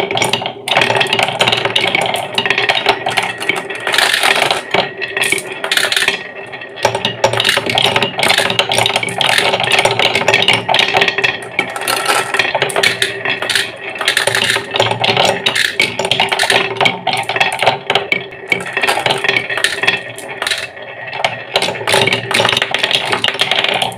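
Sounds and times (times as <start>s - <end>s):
marbles rolling in wooden bowl: 0.0s - 23.9s.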